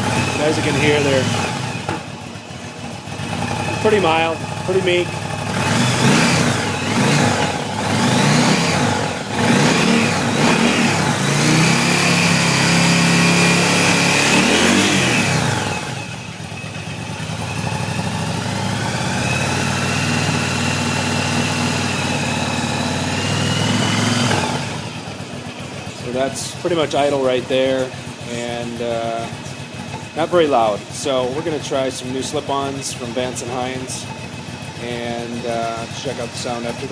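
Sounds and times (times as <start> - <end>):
motorcycle engine revving and idling: 0.0 - 36.9.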